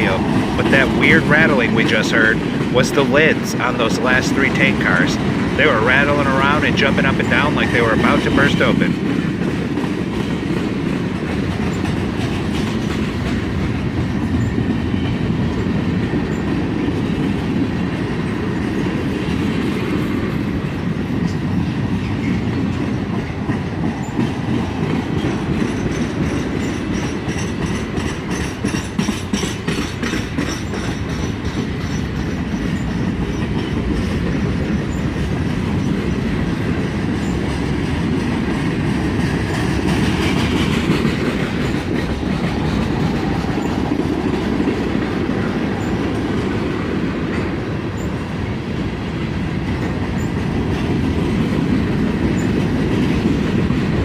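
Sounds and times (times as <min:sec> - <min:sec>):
freight train wheels rumbling: 0:00.0 - 0:54.0
wheels clacking over rail joints: 0:00.0 - 0:54.0.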